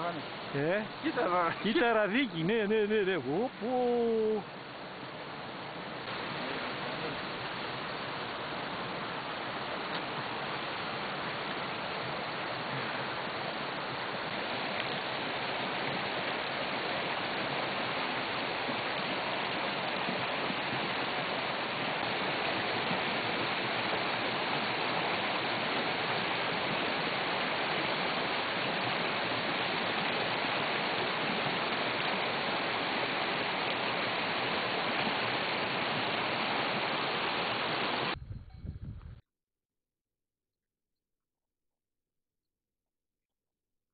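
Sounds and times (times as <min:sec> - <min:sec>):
water rushing down rocky bed: 0:00.0 - 0:38.2.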